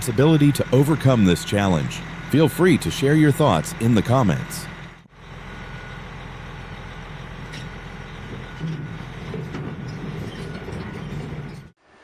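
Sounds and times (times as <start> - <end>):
heavy vehicle engine rumbling: 0.0 - 11.8.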